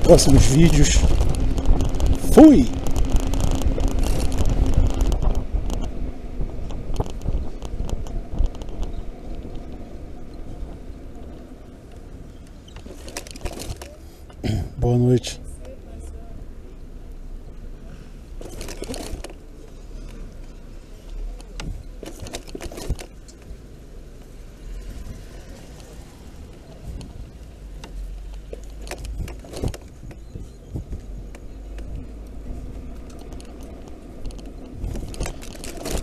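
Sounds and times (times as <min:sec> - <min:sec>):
light rattles and clicks: 0:00.0 - 0:14.4, 0:18.2 - 0:36.0
road rumble: 0:00.0 - 0:36.0
wind: 0:00.0 - 0:36.0.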